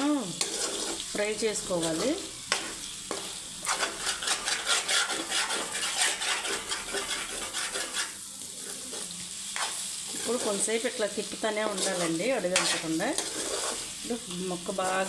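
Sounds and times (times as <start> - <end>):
meat sizzling in oil: 0.0 - 15.0
metal spoon scraping pan: 0.2 - 14.0.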